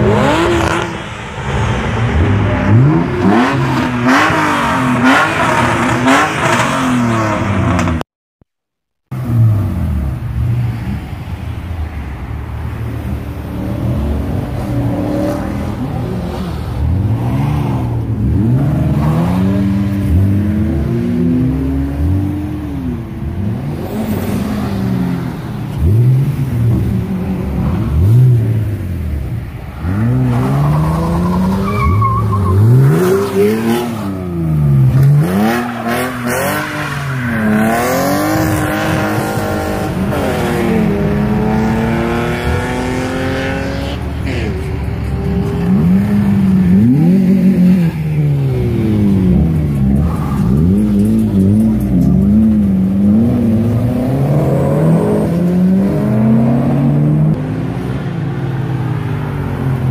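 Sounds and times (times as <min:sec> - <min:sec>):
car engines revving and accelerating: 0:00.0 - 0:08.0, 0:09.1 - 0:59.9.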